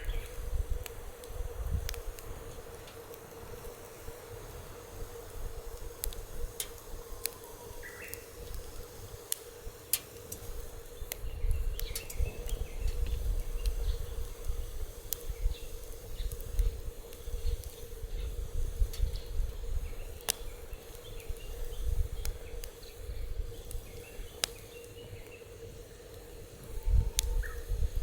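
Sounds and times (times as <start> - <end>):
wind rumble on microphone: 0.0 - 9.8, 10.4 - 24.5, 26.6 - 28.0
faint steady hum: 0.0 - 28.0
wood fire crackling and popping: 0.0 - 28.0.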